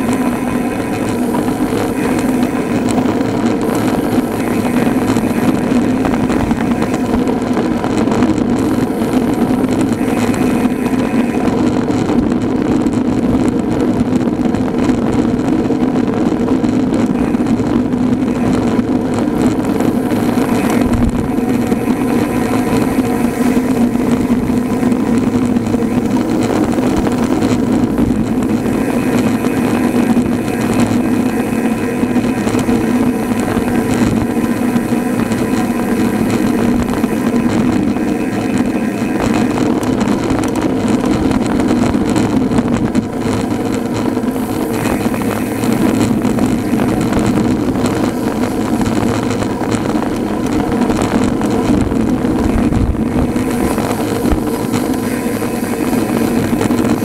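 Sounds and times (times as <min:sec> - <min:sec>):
bike tyres humming on tarmac: 0:00.0 - 0:57.0
wind on microphone: 0:00.0 - 0:57.0.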